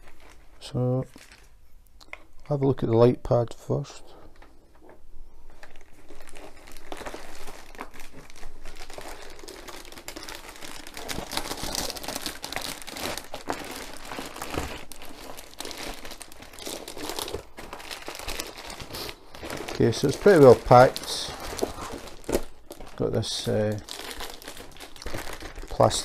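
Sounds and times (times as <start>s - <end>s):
plastic packaging crinkling: 0.0s - 1.6s, 4.4s - 26.0s.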